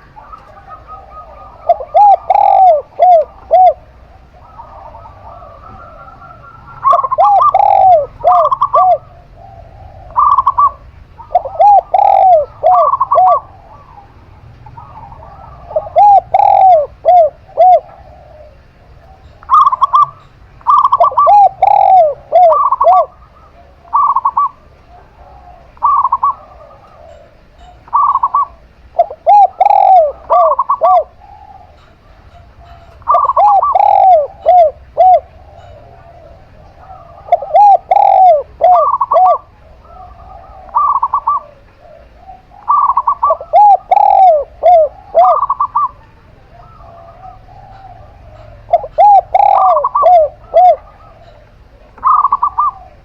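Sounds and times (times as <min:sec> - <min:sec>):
doves cooing: 0:00.0 - 0:53.0
higher-pitched dove notes: 0:00.0 - 0:53.0.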